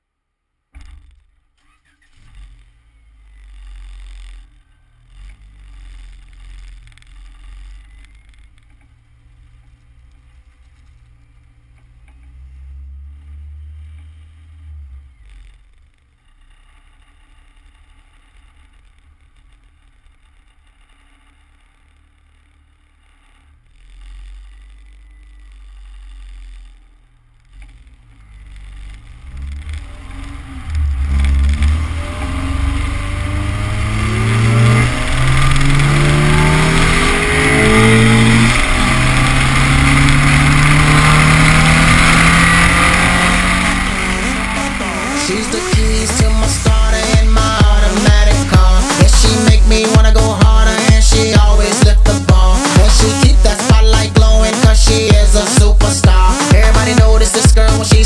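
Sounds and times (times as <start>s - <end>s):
car engine running: 0.6s - 58.0s
road and wind noise: 0.7s - 53.4s.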